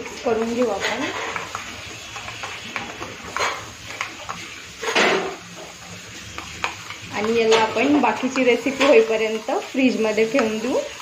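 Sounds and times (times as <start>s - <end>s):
spoon scraping bowl: 0.0s - 11.0s.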